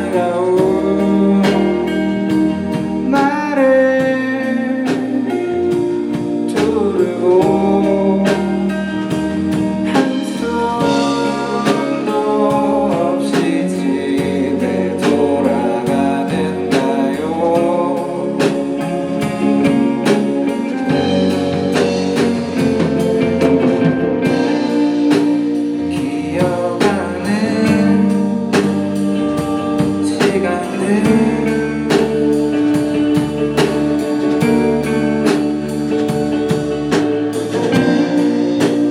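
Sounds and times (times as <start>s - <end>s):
person singing: 0.0s - 36.6s
band playing live: 0.0s - 38.9s.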